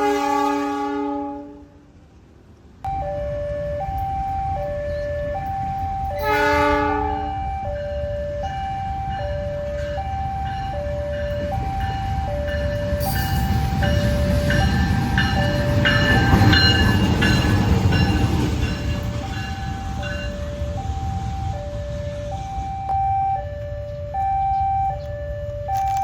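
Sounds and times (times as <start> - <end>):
train rumbling past: 0.0 - 26.0
two-tone crossing alarm: 2.9 - 26.0.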